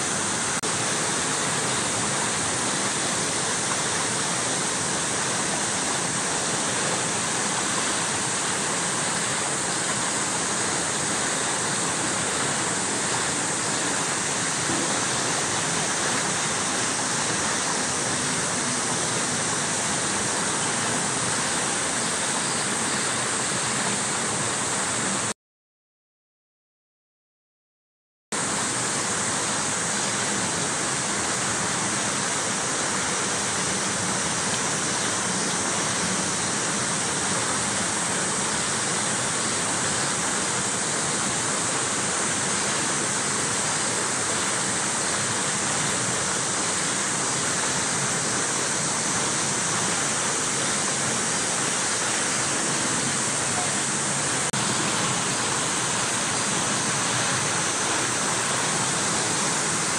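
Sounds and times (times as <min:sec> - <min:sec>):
steady rushing noise: 0:00.0 - 0:25.3, 0:28.4 - 0:59.9.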